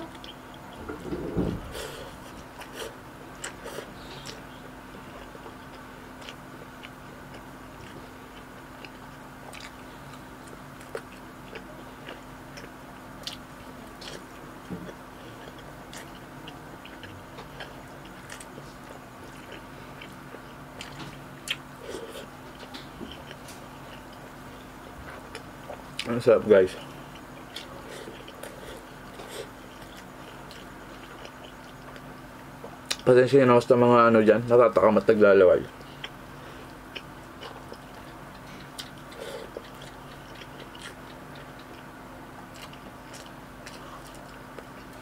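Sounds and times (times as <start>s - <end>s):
person chewing and lip-smacking: 0.0s - 0.8s, 2.1s - 26.1s, 27.1s - 33.1s, 35.8s - 45.0s
faint steady hum: 0.0s - 45.0s.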